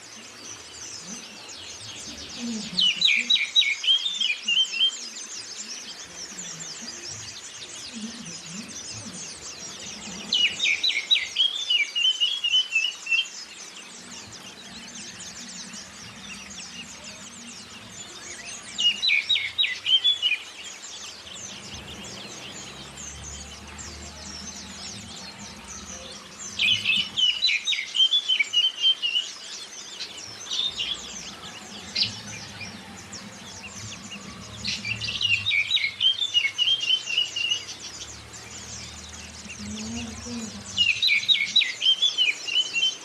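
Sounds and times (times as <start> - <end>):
high twittering bird chorus: 0.0 - 43.0
songbird singing varied phrases: 0.0 - 43.0.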